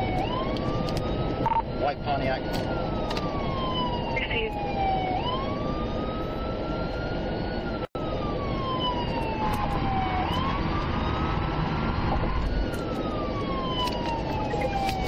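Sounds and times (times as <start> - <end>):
police siren wailing: 0.0 - 15.0
road and engine noise: 0.0 - 15.0.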